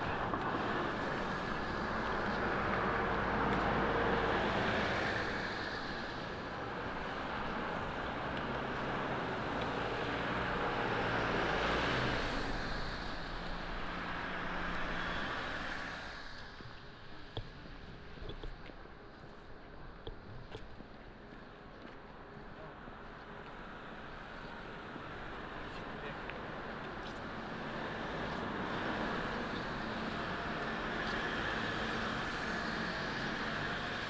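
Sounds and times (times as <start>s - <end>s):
cars passing with tyre noise: 0.0s - 34.0s.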